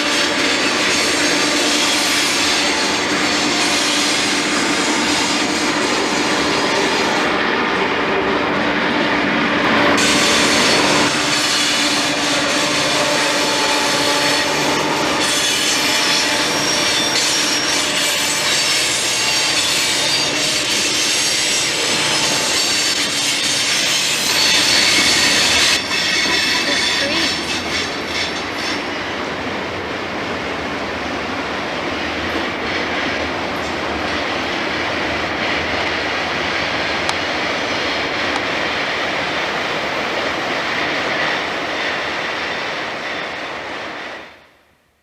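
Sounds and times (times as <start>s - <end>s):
steel wheels squealing on rail: 0.0s - 29.6s, 31.9s - 44.5s.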